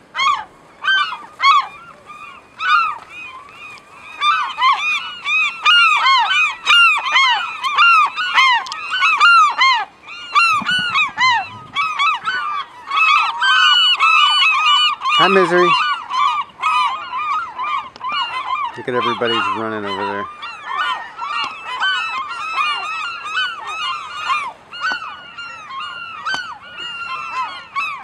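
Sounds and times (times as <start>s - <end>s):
gulls calling: 0.0s - 28.0s.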